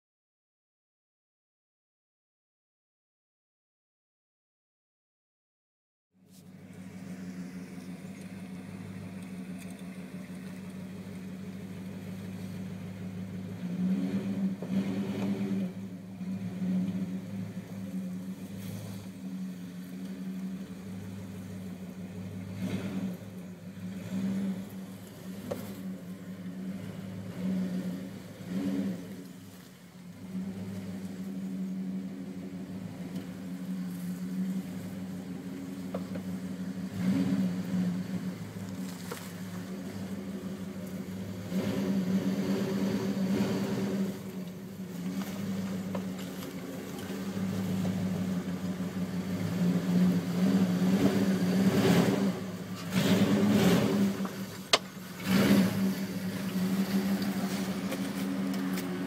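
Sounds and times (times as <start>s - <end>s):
car engine at low revs: 6.2s - 59.0s.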